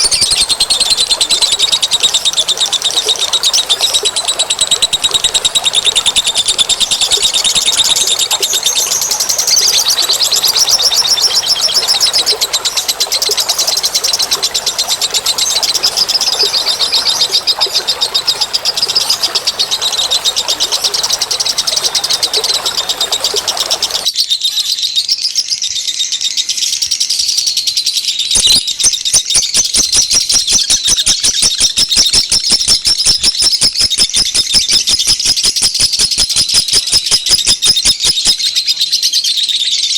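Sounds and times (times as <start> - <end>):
pulsed rattling bird call: 0.0 - 39.9
small birds chirping: 0.0 - 39.9.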